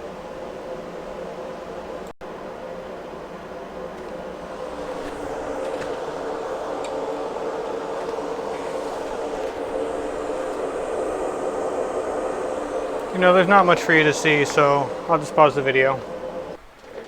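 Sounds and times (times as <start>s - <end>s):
low hum of heating equipment: 0.0s - 17.0s
rushing air and fan noise: 0.0s - 17.0s.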